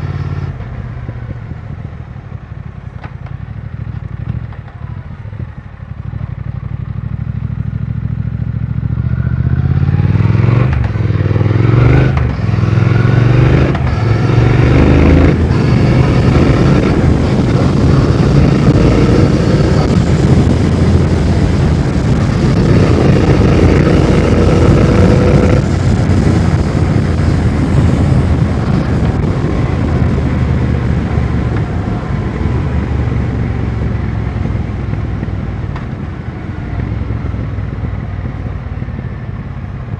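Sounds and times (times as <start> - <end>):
motorcycle engine revving: 3.1 - 39.9.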